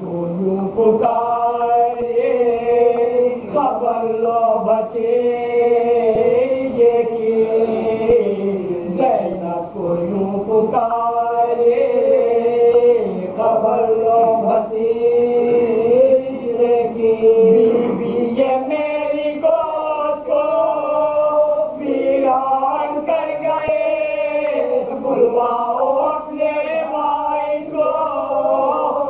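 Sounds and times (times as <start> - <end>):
men chanting unaccompanied: 0.0 - 29.0.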